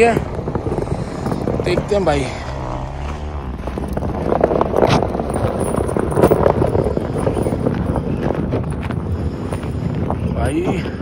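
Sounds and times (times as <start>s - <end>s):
snow chain clinking and crunching: 0.0s - 9.8s
low engine sound: 0.0s - 11.0s.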